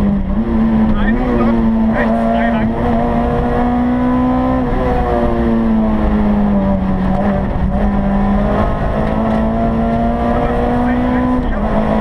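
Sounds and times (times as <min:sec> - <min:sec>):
car engine running hard: 0:00.0 - 0:12.0
road and tyre noise: 0:00.0 - 0:12.0.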